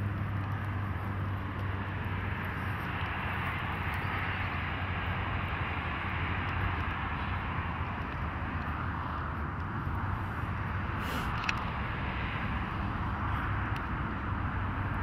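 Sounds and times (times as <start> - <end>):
distant road traffic roar: 0.0 - 15.0.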